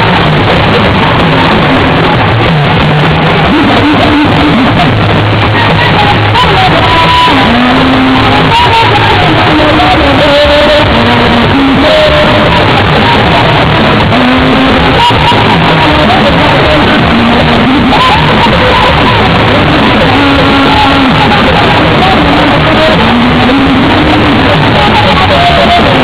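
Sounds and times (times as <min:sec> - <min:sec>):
crowd noise: 0:00.0 - 0:26.0
drumming: 0:00.0 - 0:26.0
man singing into microphone: 0:00.0 - 0:26.0.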